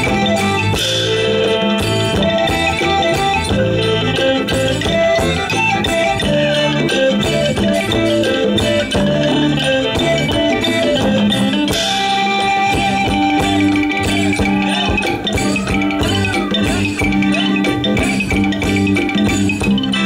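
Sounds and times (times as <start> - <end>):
folk band playing: 0.0 - 20.0
struck percussion beat: 0.0 - 20.0.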